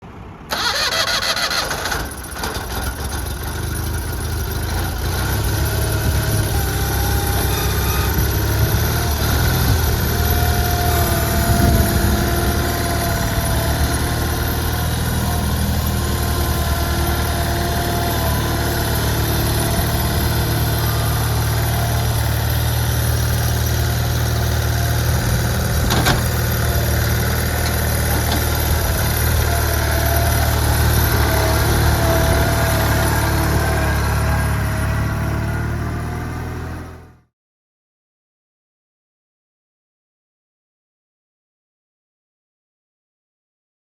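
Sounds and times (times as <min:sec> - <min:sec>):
mower tractor engine idling: 0:00.5 - 0:37.1.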